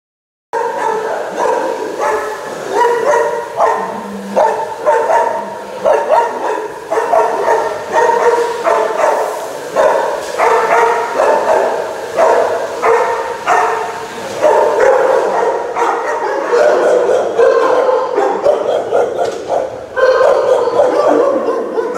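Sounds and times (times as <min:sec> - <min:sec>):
dogs barking: 0:00.6 - 0:21.9.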